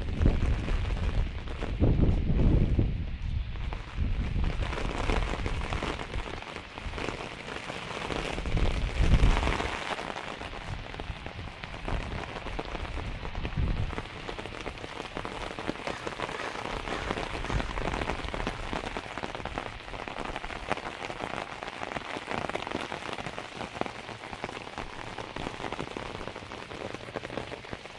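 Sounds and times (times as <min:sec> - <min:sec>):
rain pattering on pavement: 0:00.0 - 0:27.9.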